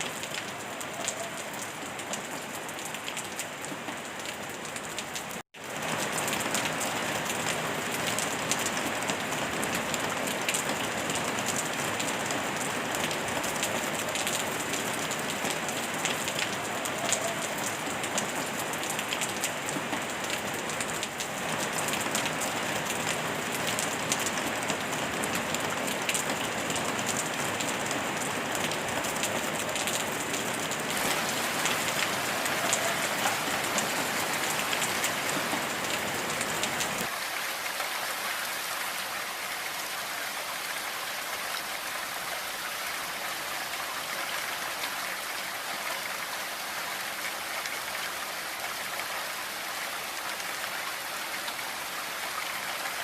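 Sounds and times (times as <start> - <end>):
rain hissing and pattering: 0.0 - 53.0.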